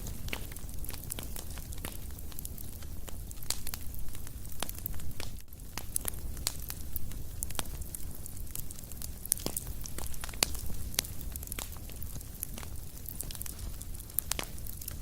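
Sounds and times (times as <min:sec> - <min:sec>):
wood fire pops and snaps: 0:00.0 - 0:15.0.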